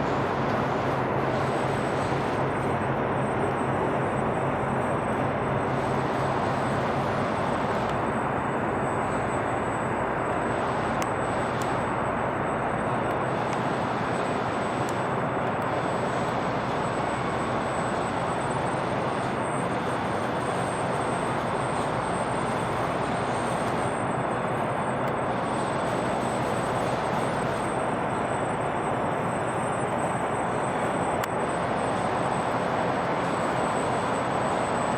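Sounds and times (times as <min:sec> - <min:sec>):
faint high whine: 0:00.0 - 0:34.9.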